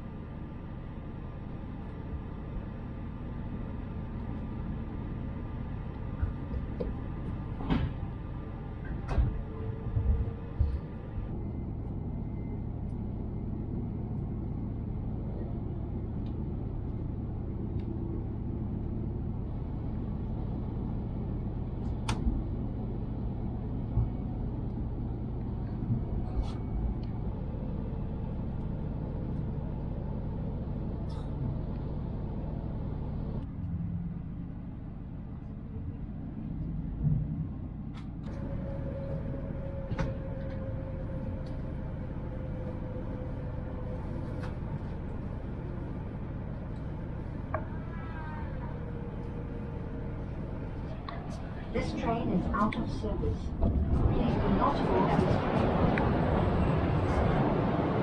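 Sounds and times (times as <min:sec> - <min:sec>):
train cabin rumble: 0:00.0 - 0:58.0.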